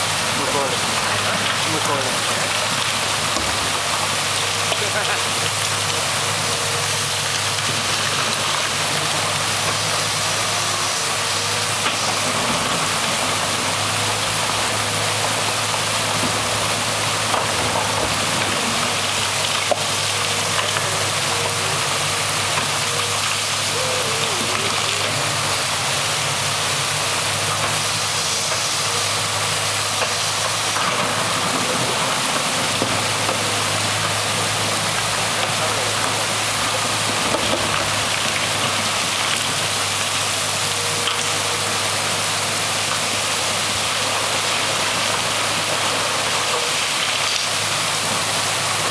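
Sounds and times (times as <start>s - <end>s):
excavator diesel engine hum: 0.0s - 48.9s
stream water over rocks: 0.0s - 48.9s.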